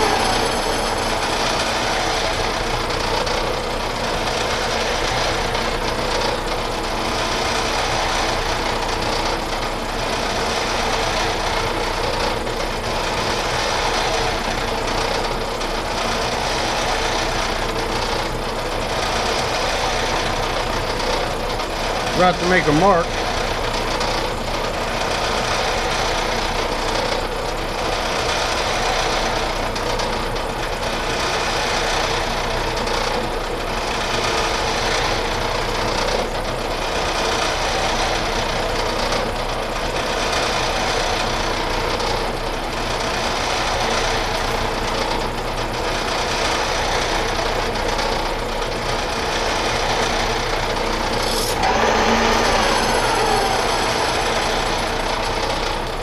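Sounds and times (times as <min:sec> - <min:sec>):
metal lathe running: 0:00.0 - 0:56.0.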